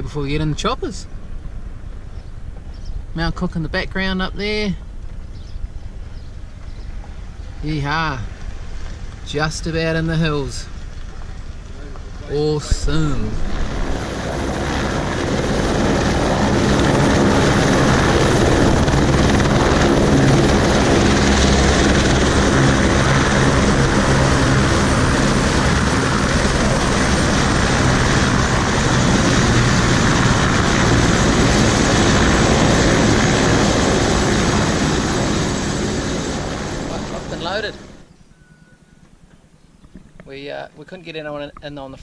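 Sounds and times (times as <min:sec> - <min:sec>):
helicopter engine and rotor drone: 0:00.0 - 0:41.7.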